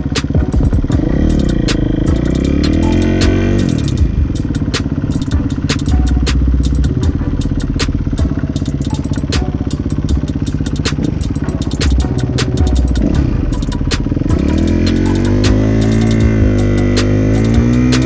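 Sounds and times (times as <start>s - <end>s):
dirt bike engine: 0.0s - 18.0s
sharp clicks and rattles: 0.0s - 18.0s.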